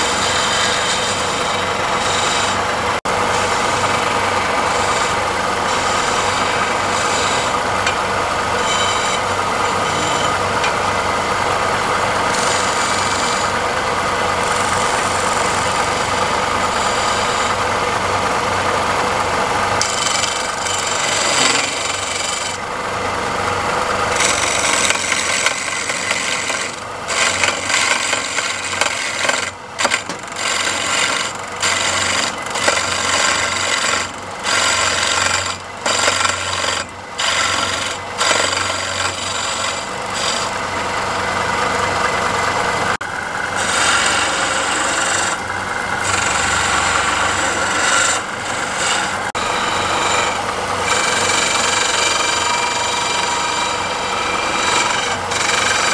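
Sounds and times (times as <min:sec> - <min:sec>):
chisel scraping spinning wood: 0:00.0 - 0:55.9
lathe running hum: 0:00.0 - 0:55.9.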